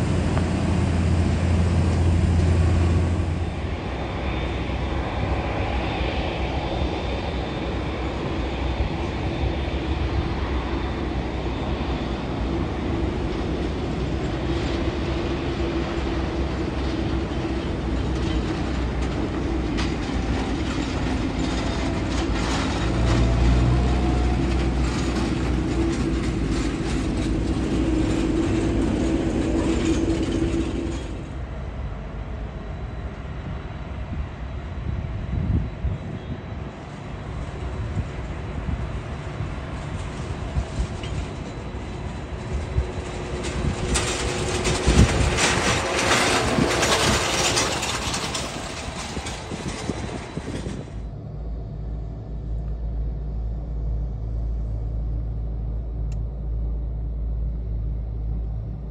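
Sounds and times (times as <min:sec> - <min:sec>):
jet engines running: 0:00.0 - 0:58.9.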